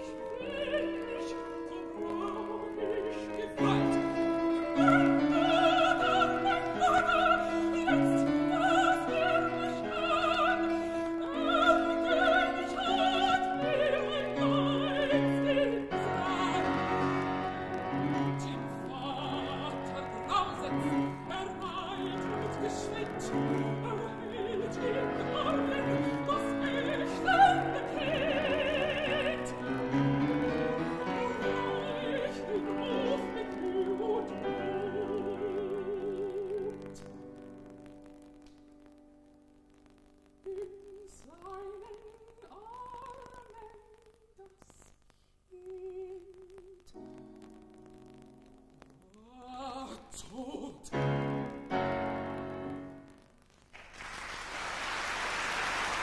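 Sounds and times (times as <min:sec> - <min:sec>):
woman singing operatically: 0:00.0 - 0:37.2, 0:40.4 - 0:44.9, 0:45.5 - 0:47.1, 0:49.1 - 0:51.6
piano: 0:00.0 - 0:44.2, 0:45.6 - 0:56.0.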